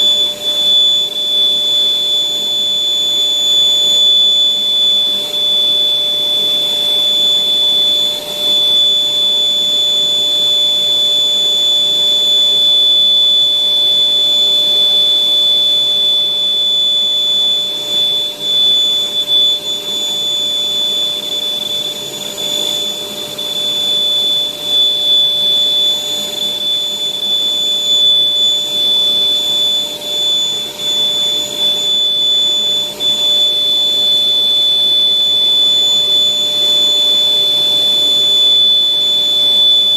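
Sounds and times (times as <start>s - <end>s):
electric air blower whining: 0.0s - 39.9s.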